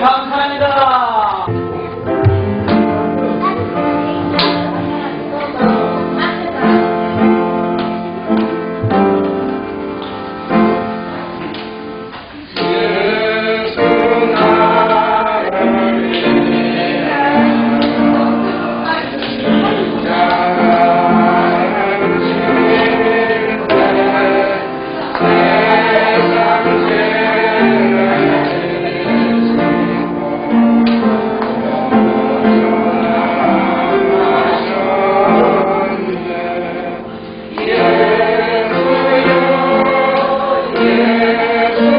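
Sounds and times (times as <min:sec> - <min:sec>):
instrumental accompaniment: 0:00.6 - 0:41.9
choir singing a gospel hymn: 0:01.4 - 0:41.9.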